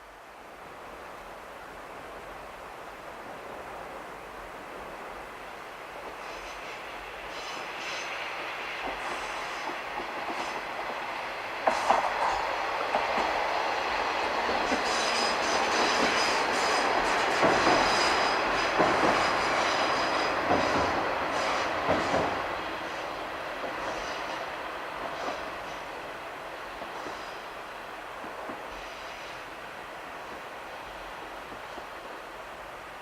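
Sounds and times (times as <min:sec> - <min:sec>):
diesel railcar passing: 0:01.6 - 0:33.0.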